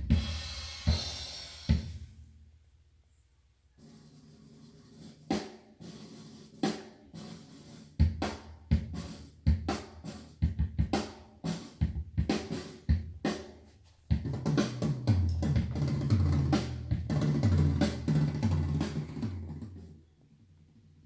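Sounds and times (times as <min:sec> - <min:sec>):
drum kit beat: 0:00.0 - 0:02.2, 0:03.8 - 0:20.0.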